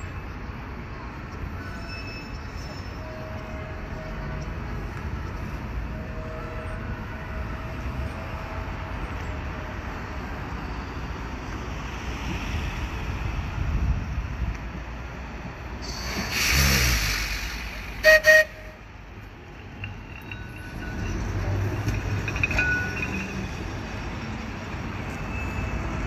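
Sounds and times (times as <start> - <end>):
tram wheels rumbling on track: 0.0 - 26.0.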